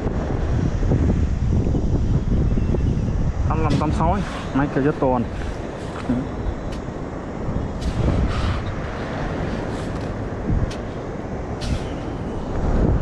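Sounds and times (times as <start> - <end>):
surf rumbling: 0.0 - 13.0.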